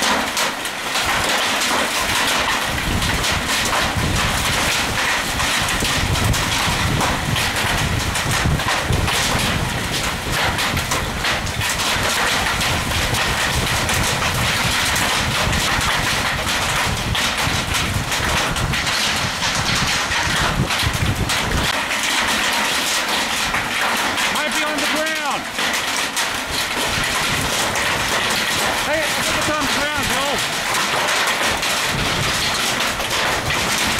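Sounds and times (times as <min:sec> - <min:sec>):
wind buffeting microphone: 0:02.1 - 0:24.3, 0:25.8 - 0:33.9.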